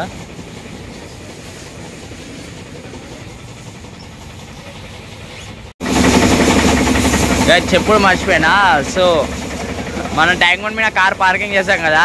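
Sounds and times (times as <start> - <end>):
car wash machinery rumbling: 0.0 - 12.0.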